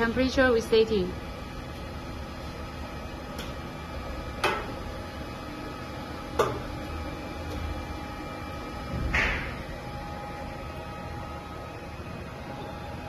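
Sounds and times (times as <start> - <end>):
heaters and fans humming: 0.0 - 13.0.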